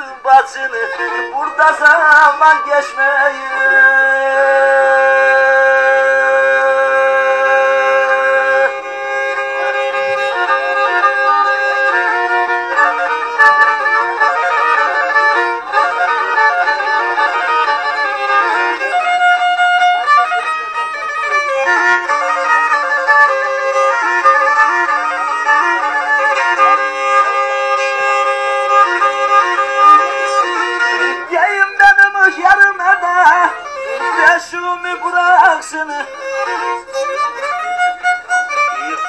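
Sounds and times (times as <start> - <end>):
bowed fiddle folk melody: 0.0 - 39.0.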